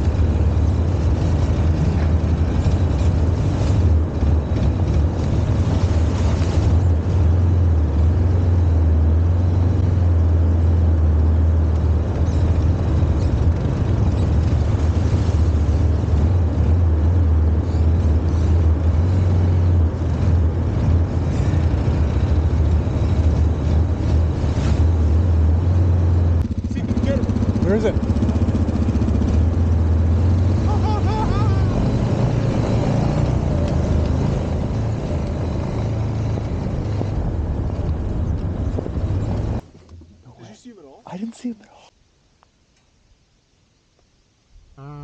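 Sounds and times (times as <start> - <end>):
quad engine droning: 0.0 - 39.6.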